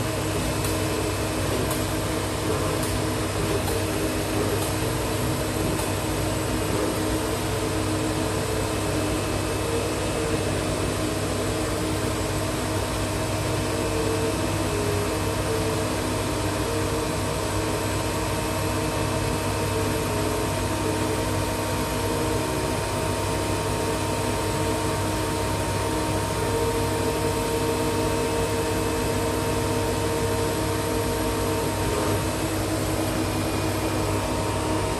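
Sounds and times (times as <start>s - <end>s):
fans and air pumps whirring: 0.0s - 34.9s.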